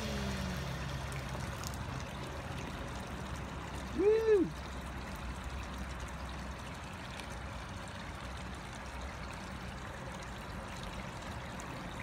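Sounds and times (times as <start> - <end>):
pond vacuum motor hum: 0.0 - 12.0.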